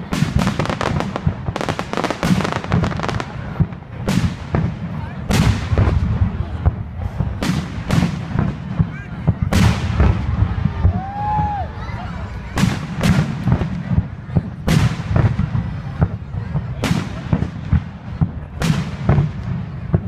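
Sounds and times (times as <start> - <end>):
aerial fireworks bursting: 0.0 - 20.0.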